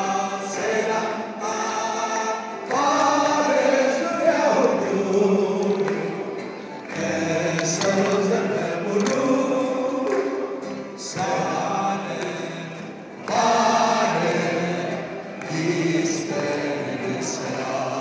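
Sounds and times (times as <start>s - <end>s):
crowd singing together: 0.0s - 18.0s
people clapping along: 0.0s - 18.0s.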